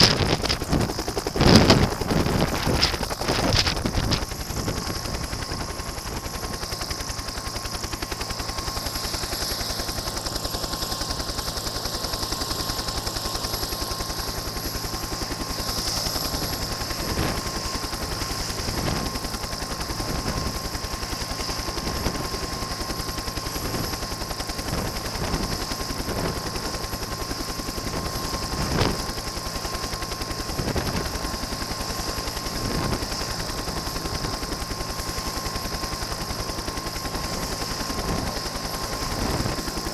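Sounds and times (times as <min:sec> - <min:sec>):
helicopter rotor chop: 0:00.0 - 0:39.9
turbine whine: 0:00.0 - 0:39.9.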